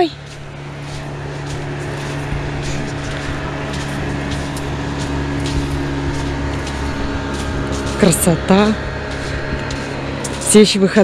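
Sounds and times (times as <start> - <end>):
light footsteps: 0.0 - 11.0
motor hum: 0.0 - 11.0.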